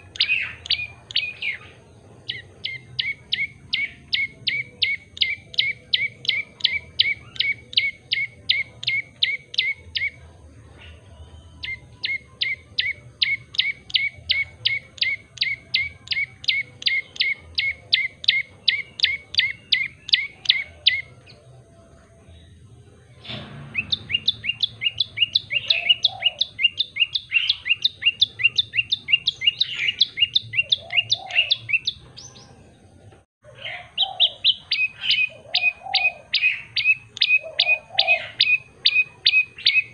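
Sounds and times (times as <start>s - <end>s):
bird chip notes: 0.0s - 32.9s
higher varied birdsong: 0.0s - 39.9s.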